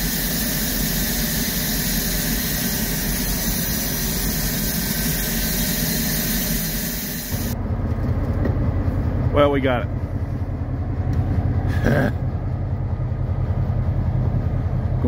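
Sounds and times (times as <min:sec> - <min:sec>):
locomotive idling rumble: 0:00.0 - 0:15.0.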